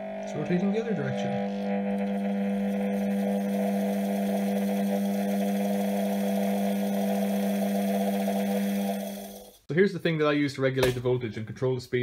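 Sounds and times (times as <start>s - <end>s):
electric motor humming: 0.0s - 9.7s.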